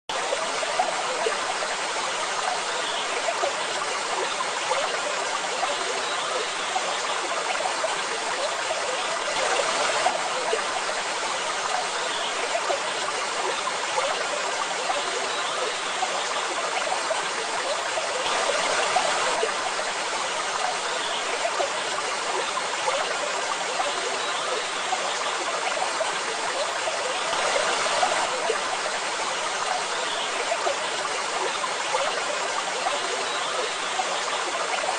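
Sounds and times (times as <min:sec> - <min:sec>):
waterfall rushing and splashing: 0:00.1 - 0:34.9.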